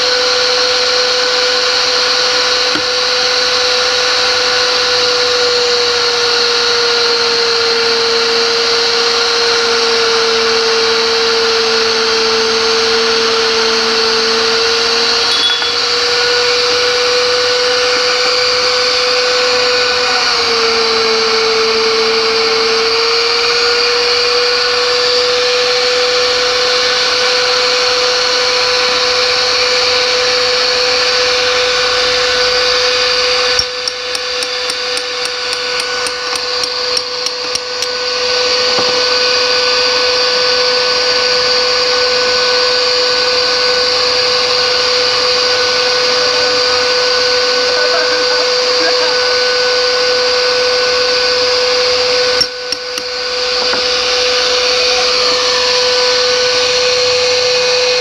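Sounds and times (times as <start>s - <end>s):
pipe-threading machine motor hum: 0.3s - 58.0s.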